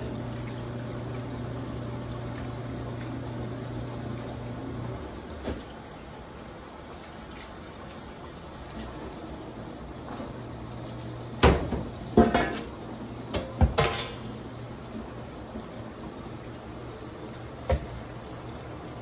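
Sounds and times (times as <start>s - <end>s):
tap water running into sink: 0.0s - 6.0s, 6.9s - 19.0s
low background hum: 0.0s - 19.0s.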